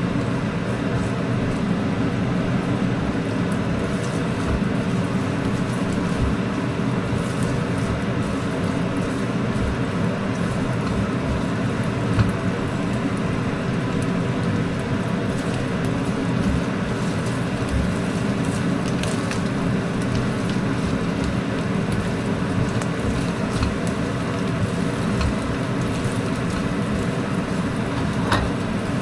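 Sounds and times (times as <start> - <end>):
range hood fan humming: 0.0 - 29.0
sausage sizzling in a wok: 0.3 - 29.0.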